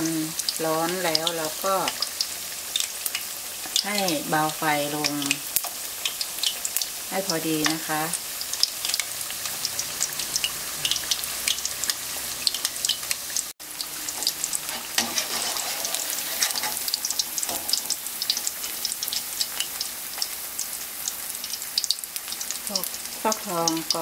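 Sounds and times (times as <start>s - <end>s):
deep-frying sizzle with crackling pops: 0.0s - 24.0s.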